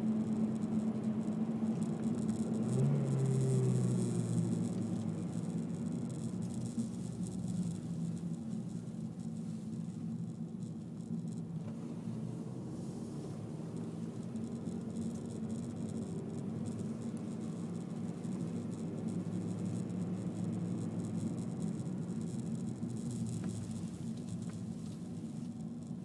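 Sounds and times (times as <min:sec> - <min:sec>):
car engine and tyres droning: 0:00.0 - 0:26.0
faint ticking and crackle: 0:00.0 - 0:26.0.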